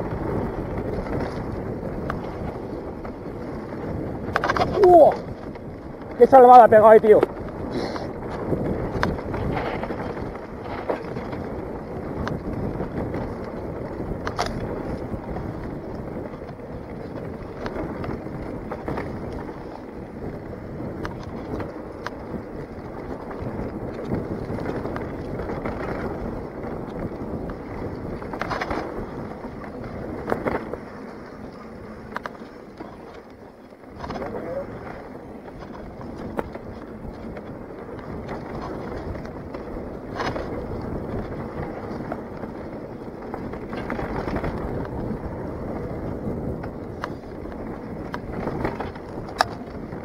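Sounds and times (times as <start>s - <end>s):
bike rattling: 0.0s - 50.0s
bike tyres rumbling on dirt: 0.0s - 50.0s.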